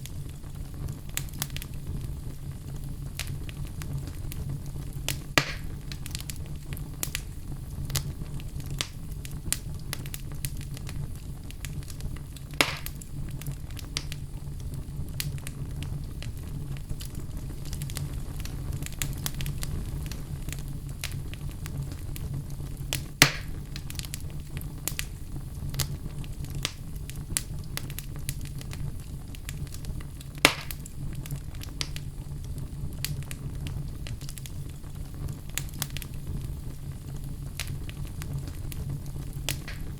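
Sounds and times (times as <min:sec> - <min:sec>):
fireplace fire crackling: 0:00.0 - 0:39.9
sharp pops of fire: 0:00.0 - 0:39.9.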